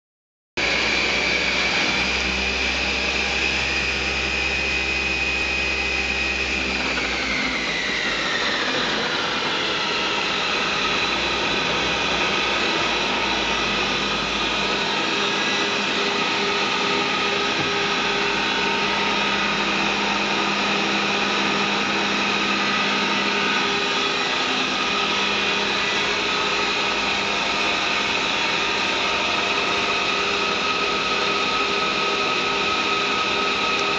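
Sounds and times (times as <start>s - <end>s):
milling machine whine: 0.6s - 33.9s.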